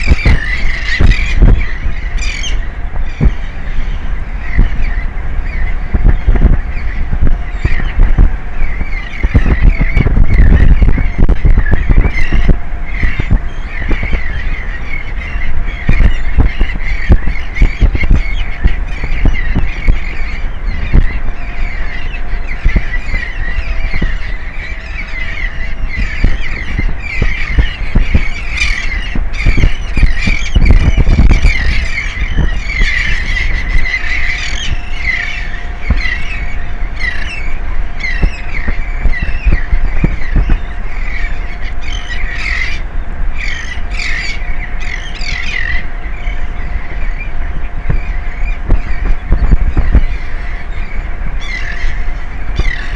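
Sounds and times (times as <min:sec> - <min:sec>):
faint steady hum: 0:00.0 - 0:52.9
seabirds calling: 0:00.0 - 0:52.9
wind buffeting microphone: 0:00.0 - 0:52.9.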